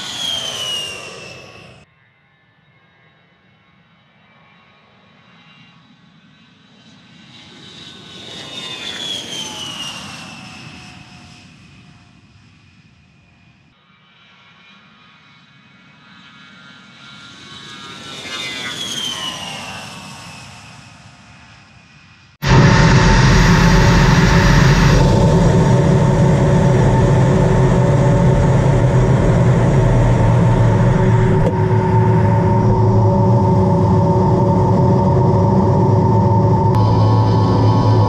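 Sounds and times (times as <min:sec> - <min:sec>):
jet engines whining past: 0:00.0 - 0:03.2, 0:04.0 - 0:13.3, 0:15.9 - 0:38.0.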